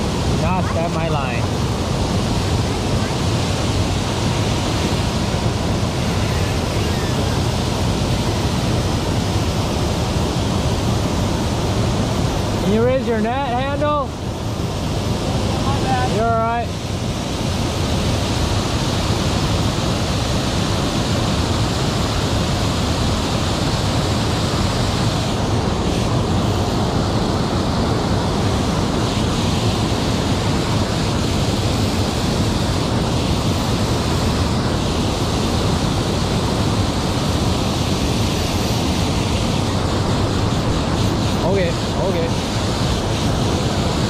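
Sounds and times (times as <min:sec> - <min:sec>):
water rushing over spillway: 0:00.0 - 0:44.0.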